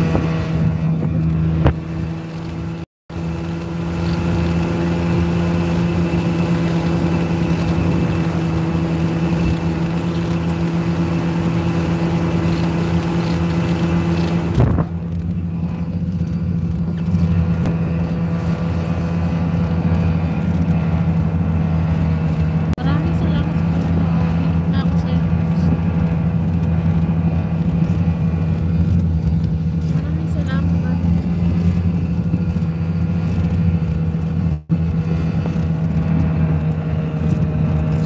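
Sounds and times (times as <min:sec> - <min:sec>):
snowmobile engine running: 0:00.0 - 0:38.0.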